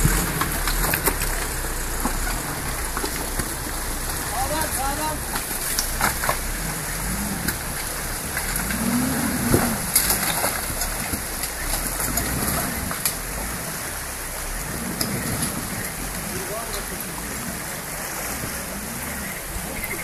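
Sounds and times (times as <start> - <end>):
car engine revving: 0.0 - 20.0
stream rushing: 0.0 - 20.0.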